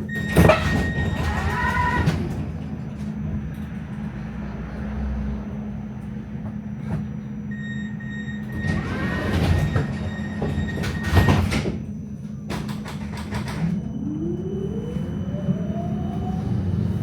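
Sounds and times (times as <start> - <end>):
tram wheels rattling and clattering: 0.0 - 7.6, 8.4 - 17.0
tram motor hum: 0.0 - 17.0.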